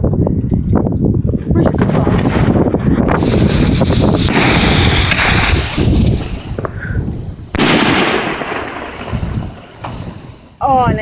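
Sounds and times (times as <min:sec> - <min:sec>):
fireworks exploding: 0:01.6 - 0:11.0.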